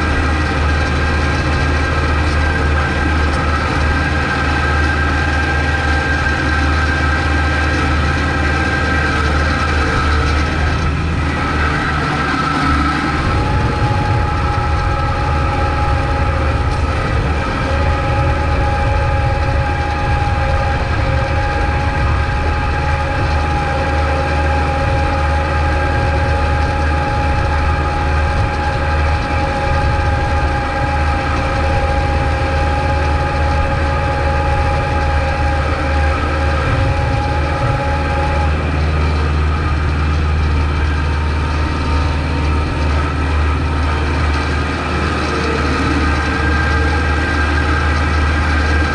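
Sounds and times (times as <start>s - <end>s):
steady high whine: 0.0s - 48.9s
tractor diesel engine droning: 0.0s - 48.9s.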